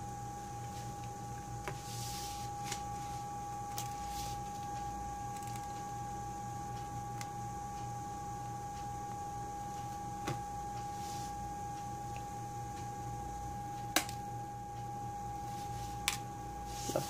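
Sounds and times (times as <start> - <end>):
high-pitched whine: 0.0 - 17.0
low equipment hum: 0.0 - 17.0.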